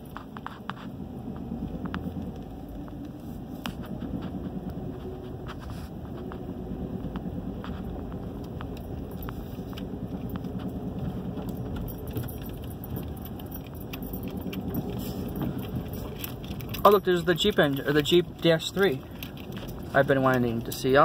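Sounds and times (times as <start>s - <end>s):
light clicks and jingling: 0.0s - 5.4s, 6.1s - 21.0s
steady low rumble: 0.0s - 21.0s.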